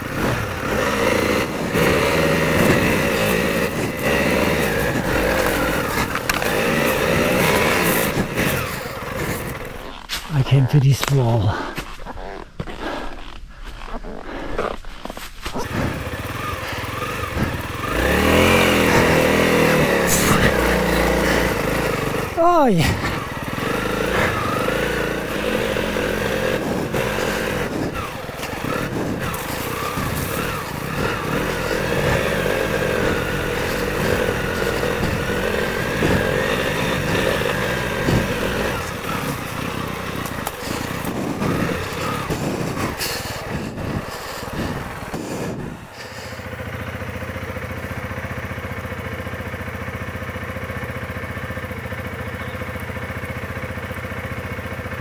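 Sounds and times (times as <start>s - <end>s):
motorcycle engine revving: 0.0s - 10.3s, 11.6s - 55.0s.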